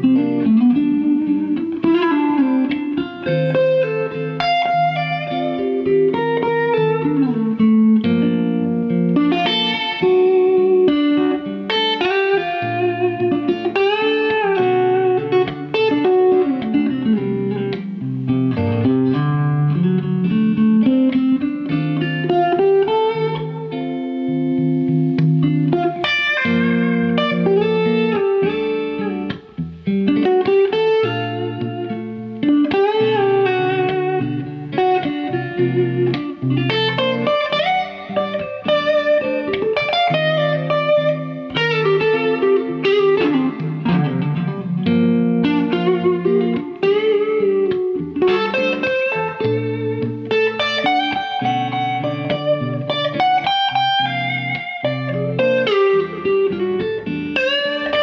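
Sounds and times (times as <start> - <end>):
electric guitar lead melody: 0.0 - 58.0
sustained guitar chords: 0.0 - 58.0.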